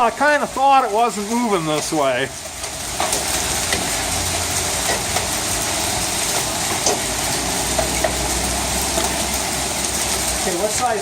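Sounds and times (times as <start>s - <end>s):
hail clattering: 0.0s - 11.0s.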